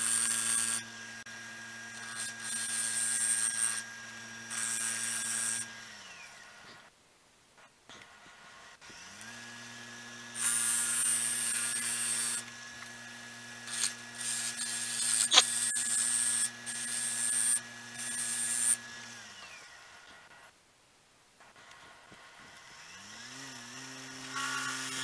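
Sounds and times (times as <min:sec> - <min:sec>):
wood lathe motor humming: 0:00.0 - 0:06.7, 0:08.6 - 0:20.3, 0:22.4 - 0:25.0
turning tool cutting wood hissing: 0:00.0 - 0:06.9, 0:08.1 - 0:20.3, 0:22.1 - 0:25.0.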